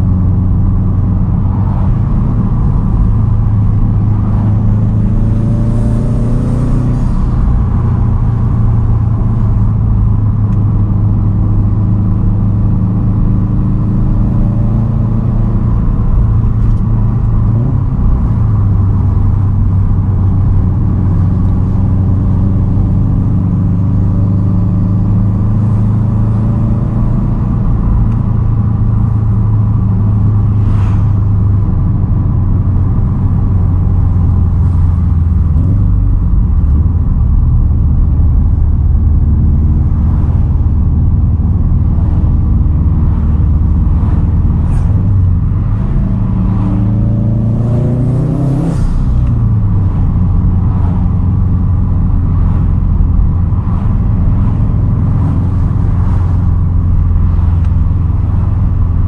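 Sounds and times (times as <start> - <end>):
turbocharged car engine under load: 0.0 - 59.0.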